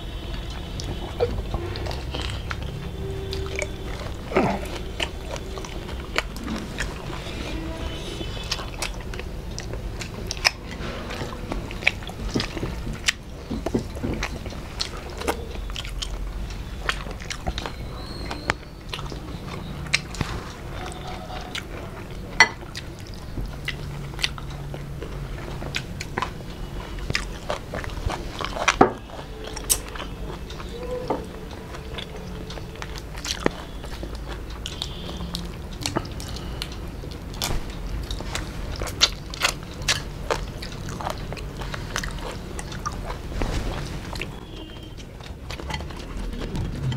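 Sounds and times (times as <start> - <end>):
chewing and mouth sounds: 0.0 - 46.9
fried prawns crunching: 0.0 - 46.9.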